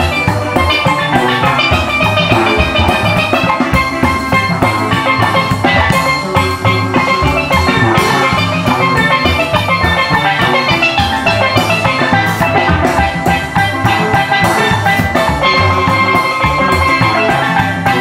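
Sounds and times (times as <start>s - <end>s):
drum kit beat: 0.0s - 18.0s
steelpans playing melody: 0.0s - 18.0s.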